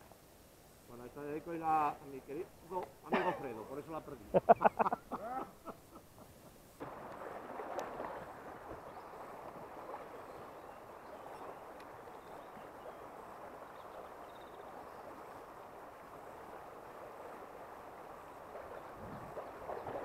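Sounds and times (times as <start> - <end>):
shallow river water running: 0.0 - 20.0.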